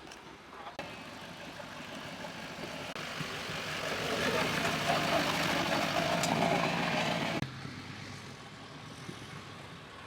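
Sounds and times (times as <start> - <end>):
road and crowd noise: 0.0 - 10.0
vehicle engine running: 0.8 - 10.0.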